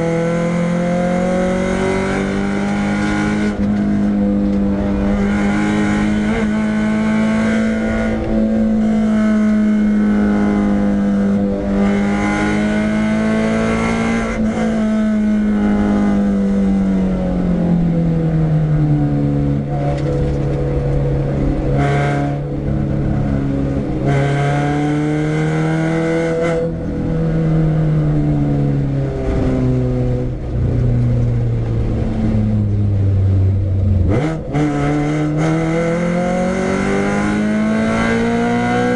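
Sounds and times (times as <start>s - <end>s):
car engine running hard: 0.0s - 38.9s.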